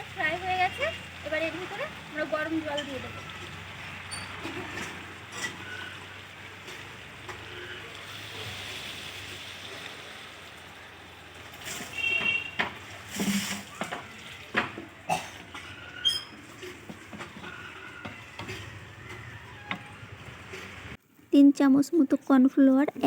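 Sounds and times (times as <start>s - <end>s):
water splashing in a pan: 0.0s - 21.0s
frying sizzle: 0.0s - 21.1s.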